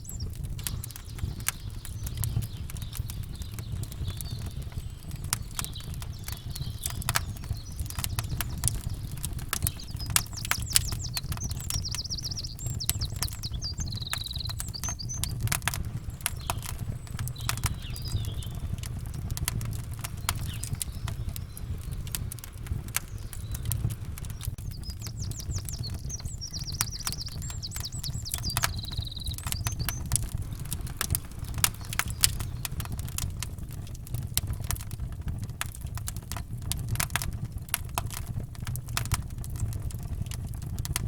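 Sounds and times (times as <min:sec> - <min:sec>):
birds chirping: 0:00.0 - 0:34.9
campfire crackling and popping: 0:00.0 - 0:41.0.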